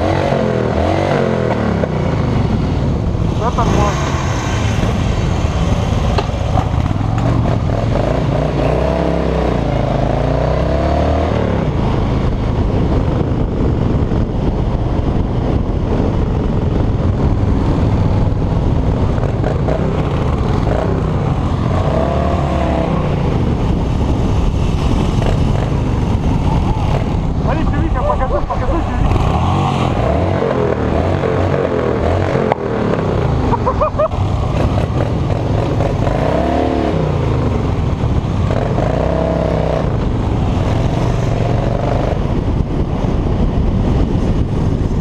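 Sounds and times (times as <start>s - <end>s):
wind rush: 0.0s - 45.0s.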